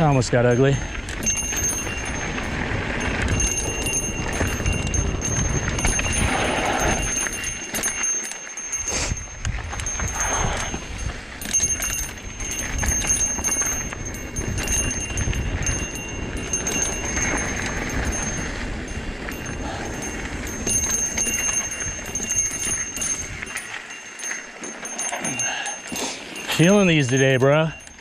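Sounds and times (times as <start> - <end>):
bike frame rattling: 0.0 - 28.0
bike freehub ticking: 0.0 - 28.0
wind buffeting microphone: 0.0 - 28.0.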